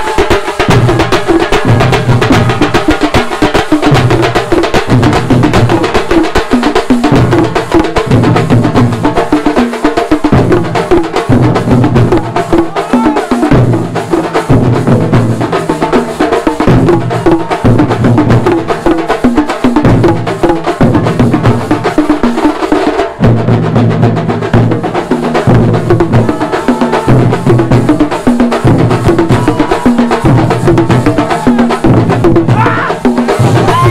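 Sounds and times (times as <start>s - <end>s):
deep drum notes: 0.0s - 33.9s.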